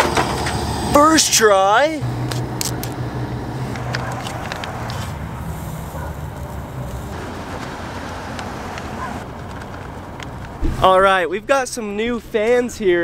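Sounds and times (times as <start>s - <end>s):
traffic rumble: 0.0s - 12.5s.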